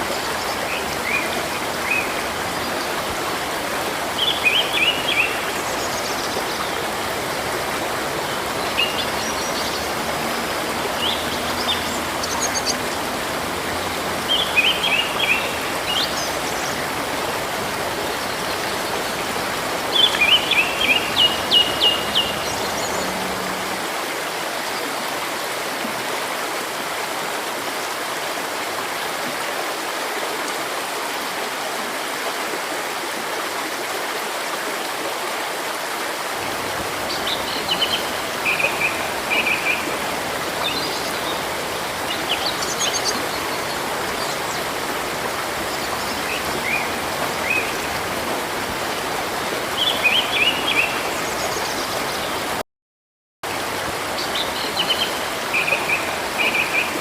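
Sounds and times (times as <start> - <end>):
stream rushing: 0.0 - 52.6, 53.4 - 57.0.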